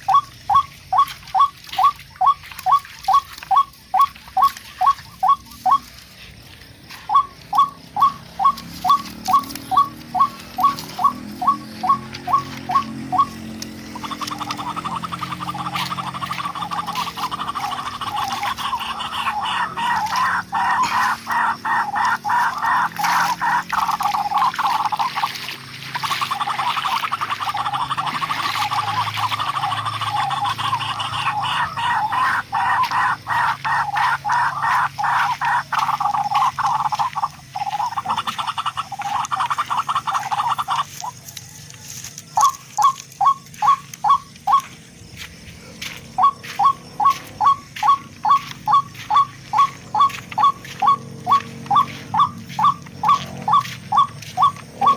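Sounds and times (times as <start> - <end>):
bird harsh pulsed notes: 0.0 - 5.9, 7.0 - 41.1, 46.1 - 54.9.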